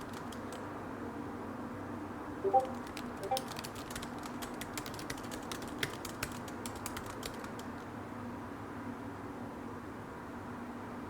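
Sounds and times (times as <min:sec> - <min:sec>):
low hum with soft hiss: 0:00.0 - 0:11.0.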